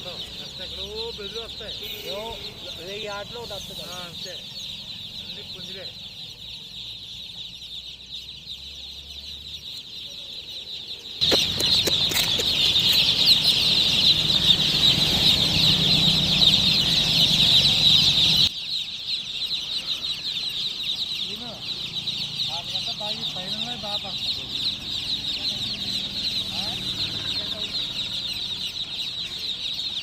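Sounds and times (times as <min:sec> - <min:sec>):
baby chicks peeping: 0:00.0 - 0:30.0.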